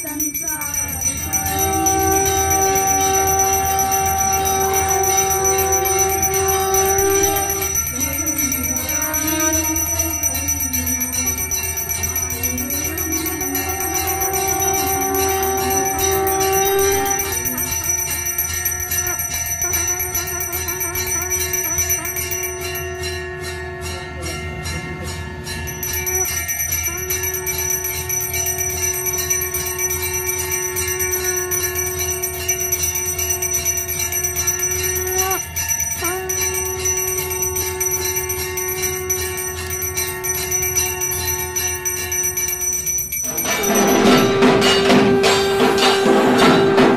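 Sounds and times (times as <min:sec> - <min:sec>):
hand bell rung rapidly: 0:00.0 - 0:46.9.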